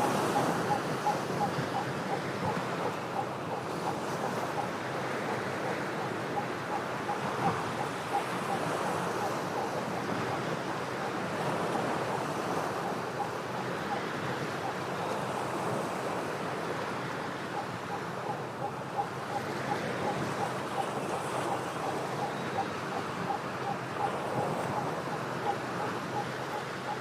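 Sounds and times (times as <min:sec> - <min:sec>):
ocean waves washing against rocks: 0:00.0 - 0:27.0.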